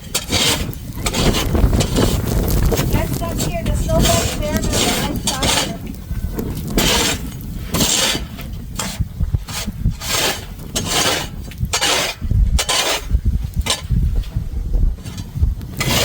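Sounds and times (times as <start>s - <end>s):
snow shovel scraping ground: 0.0s - 13.9s, 15.0s - 16.0s
dull low thuds: 0.6s - 16.0s.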